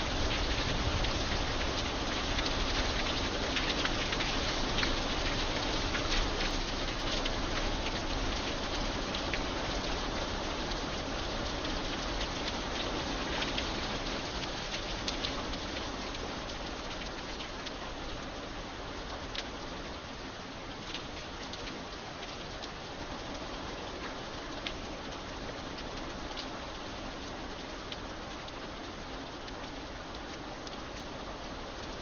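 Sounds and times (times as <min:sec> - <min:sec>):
rain on metal bridge: 0:00.0 - 0:32.0.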